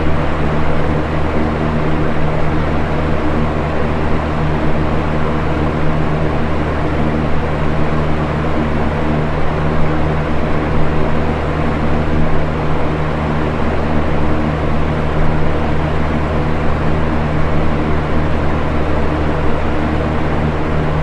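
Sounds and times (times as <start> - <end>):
box fan running: 0.0 - 21.0.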